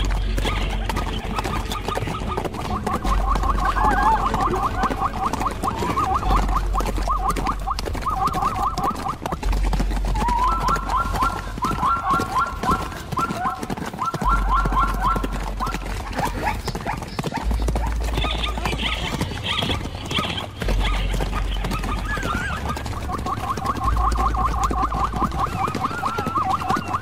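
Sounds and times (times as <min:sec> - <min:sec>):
zebras barking: 0:00.0 - 0:27.0.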